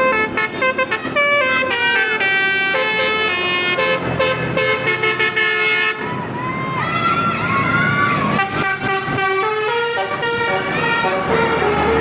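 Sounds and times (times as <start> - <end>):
multi-tone bus horn melody: 0.0 - 6.5, 8.2 - 12.0.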